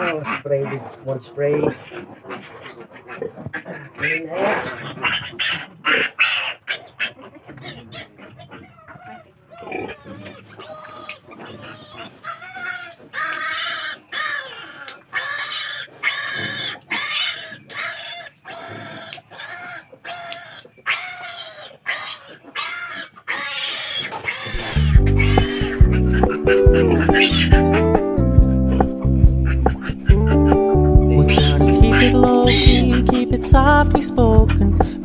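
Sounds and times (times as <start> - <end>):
piglet squealing: 0.0 - 33.7.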